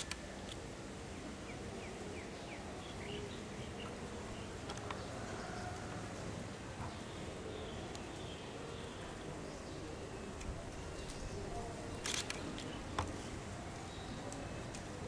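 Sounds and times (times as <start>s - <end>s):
open-air background noise: 0.0s - 15.0s
small birds chirping: 0.0s - 15.0s.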